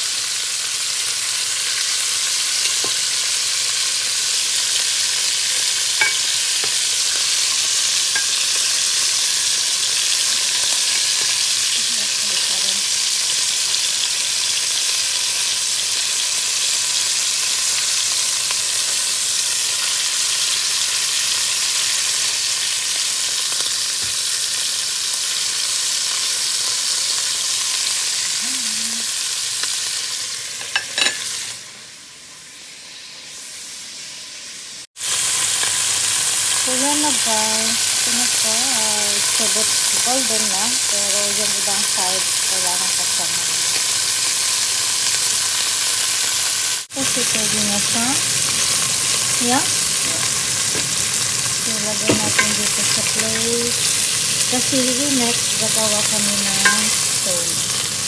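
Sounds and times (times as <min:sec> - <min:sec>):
meat sizzling in oil: 0:00.0 - 0:58.0.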